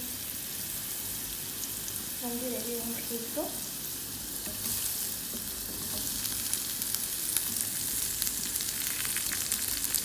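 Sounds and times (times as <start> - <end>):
vegetables frying in hot oil: 0.0 - 10.0.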